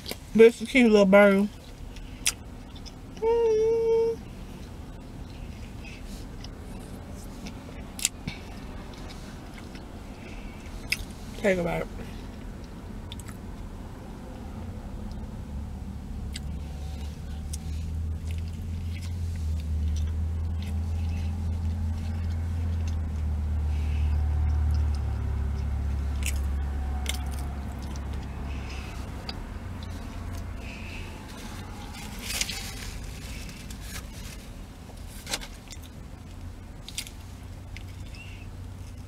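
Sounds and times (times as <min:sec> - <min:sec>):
low steady hum: 0:00.0 - 0:39.0
wet chewing sounds: 0:04.5 - 0:11.4, 0:12.3 - 0:15.4, 0:16.2 - 0:39.0.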